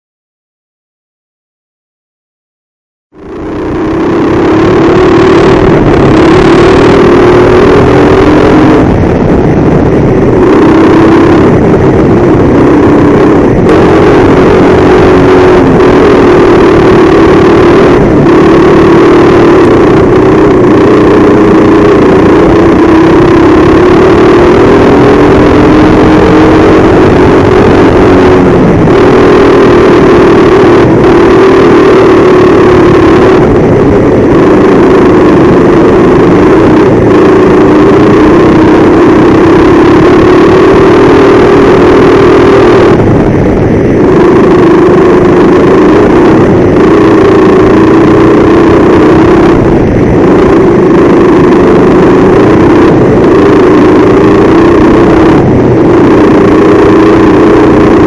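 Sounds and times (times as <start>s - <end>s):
go-kart engine revving: 3.2s - 58.0s.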